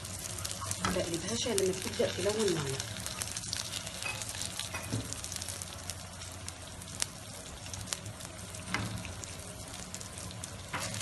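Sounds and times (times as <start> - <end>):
dough sizzling on metal tray: 0.0 - 11.0.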